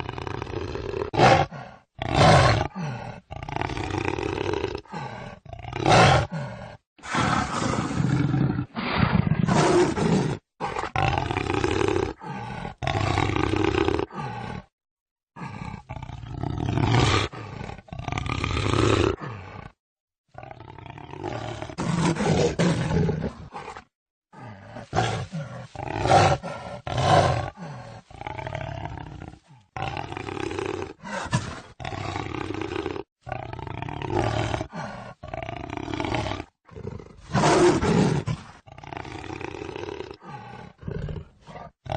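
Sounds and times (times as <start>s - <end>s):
jaguar roaring: 0.0s - 14.7s, 15.4s - 19.8s, 20.4s - 41.9s.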